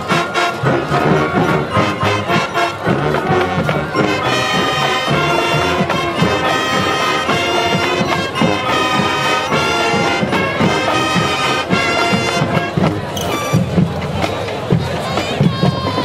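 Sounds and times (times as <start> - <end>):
brass section playing chords: 0.0 - 13.8.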